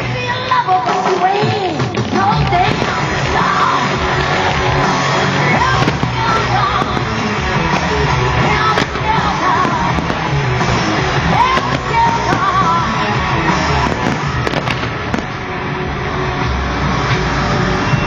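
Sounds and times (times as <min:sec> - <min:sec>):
loud music with singing: 0:00.0 - 0:18.0
fireworks bangs: 0:01.4 - 0:16.2.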